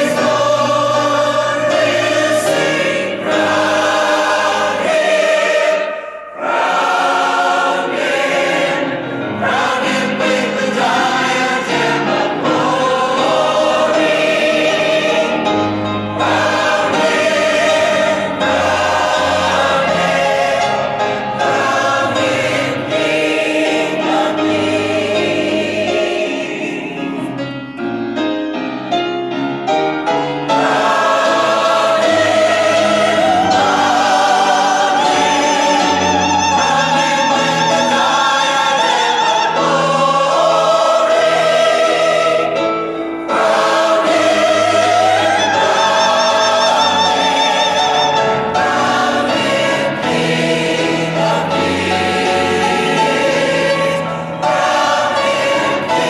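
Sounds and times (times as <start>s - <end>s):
mixed choir singing: 0.0s - 27.7s, 30.2s - 56.0s
grand piano accompaniment: 0.0s - 56.0s.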